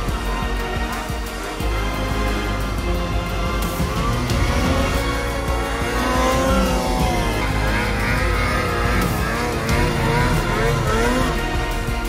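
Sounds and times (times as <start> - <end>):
background music: 0.0 - 12.0
snowmobile engine revving: 0.0 - 12.0.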